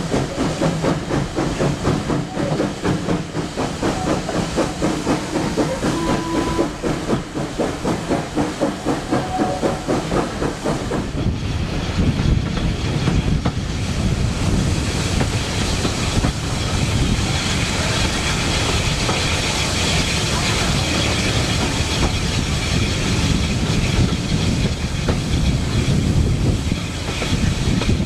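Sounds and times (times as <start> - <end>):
carriages clattering on rails: 0.0 - 28.0
steam locomotive chuffing: 0.0 - 28.0.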